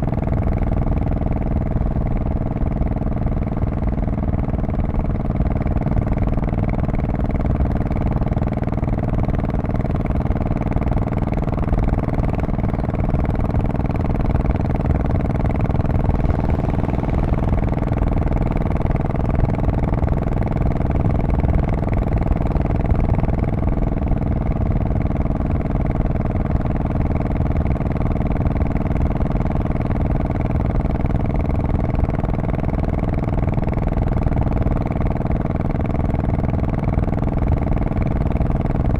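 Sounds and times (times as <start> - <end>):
motorcycle exhaust running steadily: 0.0 - 38.9.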